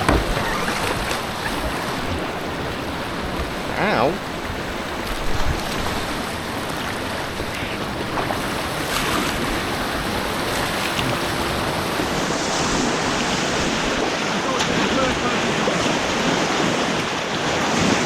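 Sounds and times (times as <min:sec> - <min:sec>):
faint water splashes: 0:00.0 - 0:18.0
white water rushing: 0:00.0 - 0:18.0.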